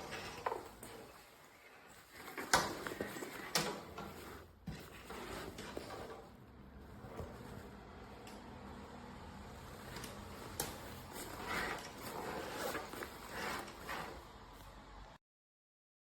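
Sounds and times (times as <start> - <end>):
fabric rubbing and scraping: 0.0 - 8.8, 9.5 - 15.0.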